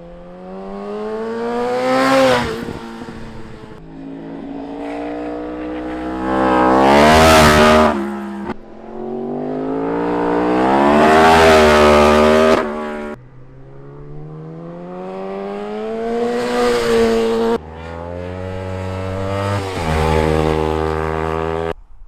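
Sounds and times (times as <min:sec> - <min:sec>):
motorcycle engines revving: 0:00.0 - 0:21.8.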